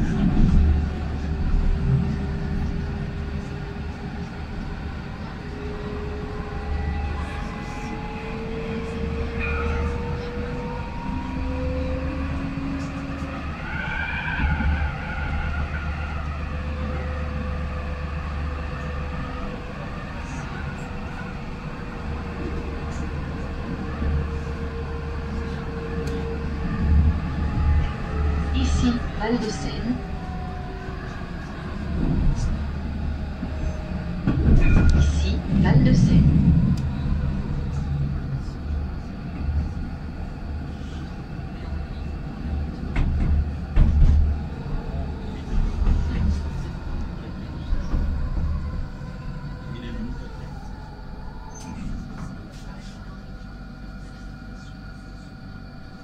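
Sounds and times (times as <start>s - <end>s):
tram wheels rumbling on rail: 0.0s - 56.0s.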